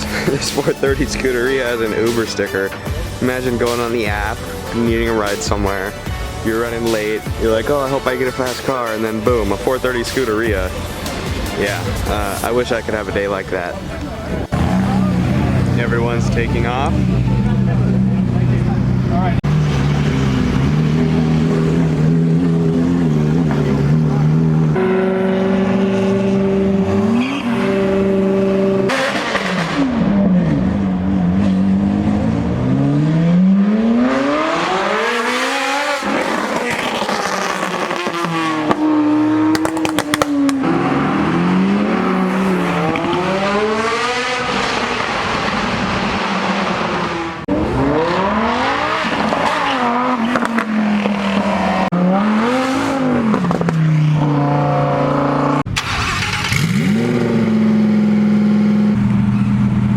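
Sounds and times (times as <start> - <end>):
sports car engines revving: 0.0 - 59.9.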